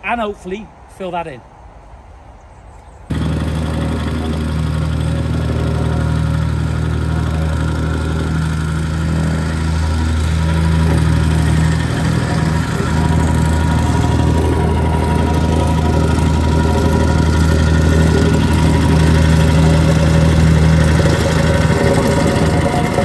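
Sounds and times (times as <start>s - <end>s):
plate compactor engine droning: 3.1s - 23.0s.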